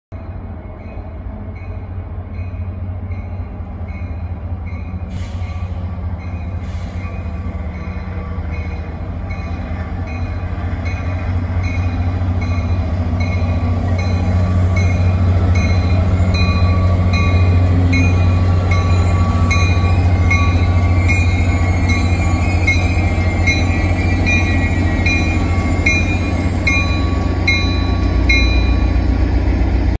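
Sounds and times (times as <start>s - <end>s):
crossing warning bell dinging: 0.1s - 29.4s
train rumbling past on rails: 0.1s - 30.0s.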